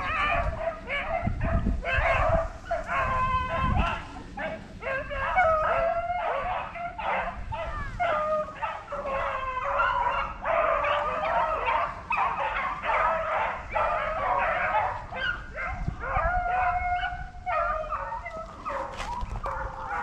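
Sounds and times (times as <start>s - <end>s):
hounds baying and yelping: 0.0s - 20.0s.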